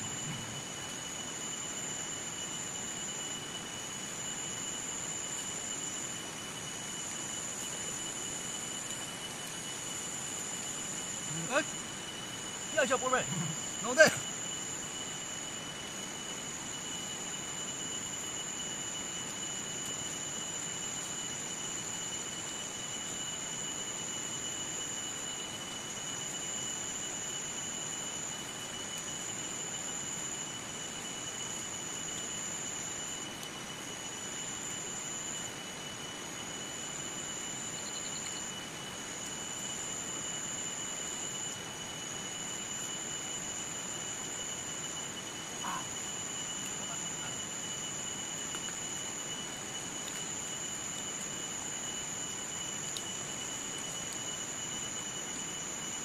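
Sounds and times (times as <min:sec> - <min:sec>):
high-pitched insect drone: 0:00.0 - 0:56.0
outdoor background hiss: 0:00.0 - 0:56.0.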